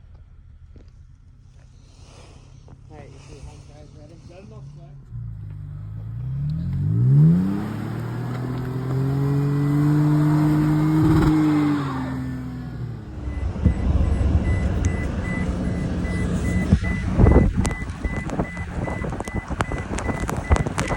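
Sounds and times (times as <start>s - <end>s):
rough low engine rumble with knocks: 0.0s - 20.9s
vehicle engine revving: 1.5s - 20.9s.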